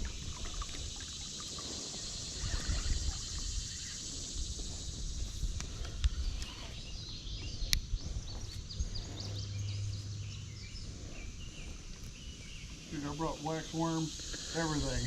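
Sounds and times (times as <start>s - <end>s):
small birds chirping: 0.0s - 15.0s
low rumble: 2.5s - 15.0s.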